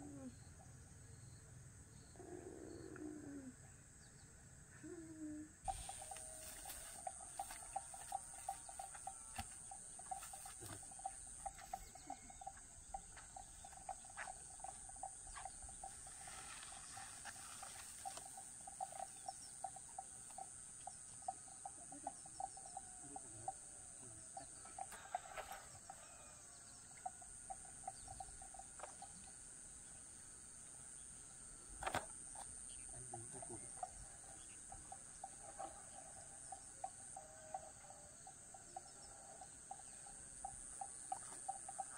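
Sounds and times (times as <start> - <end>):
pulsing insect trill: 5.7 - 31.3, 32.6 - 41.9.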